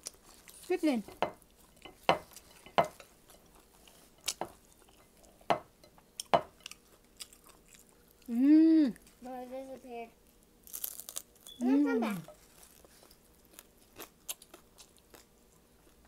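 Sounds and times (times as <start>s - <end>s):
person chewing food: 0.0s - 8.3s, 10.6s - 11.6s, 12.2s - 16.0s.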